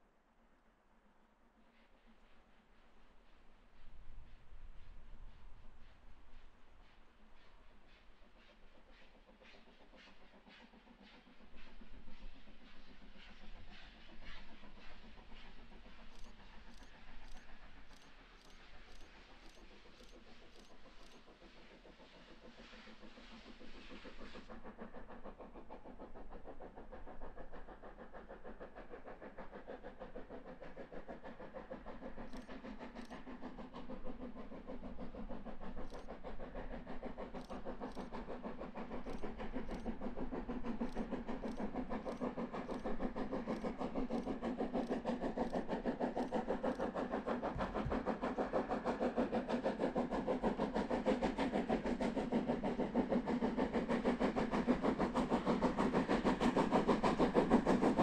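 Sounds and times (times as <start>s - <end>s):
steam locomotive exhaust beats: 0.8s - 58.0s.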